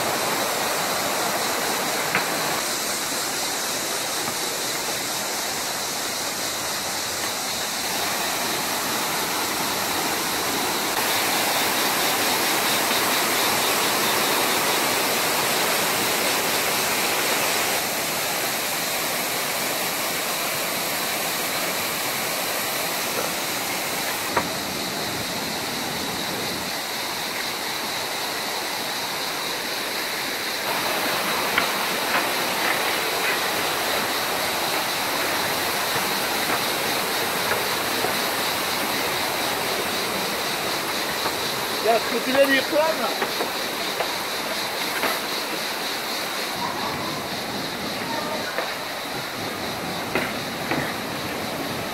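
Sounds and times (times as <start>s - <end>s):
mountain stream rushing: 0.0s - 51.9s.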